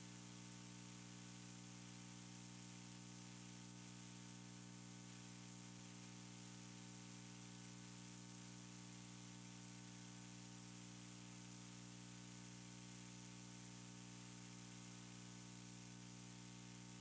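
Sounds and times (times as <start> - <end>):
faint electrical hum with hiss: 0.0 - 17.0.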